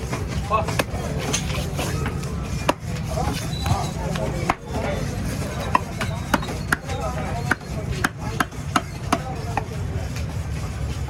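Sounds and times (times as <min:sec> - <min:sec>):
knife chopping: 0:00.1 - 0:09.7.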